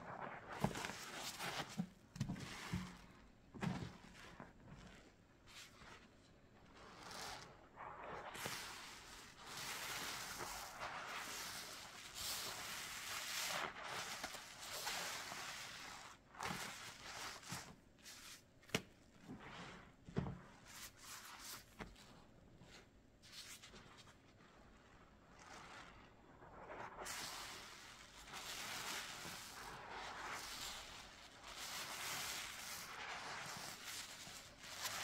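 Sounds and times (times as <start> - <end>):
wet soapy sponge squishing: 0.0 - 35.0.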